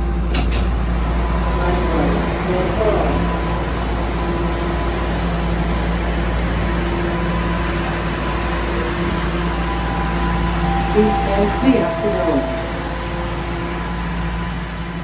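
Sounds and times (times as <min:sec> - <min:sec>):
train air conditioning hum: 0:00.0 - 0:15.0.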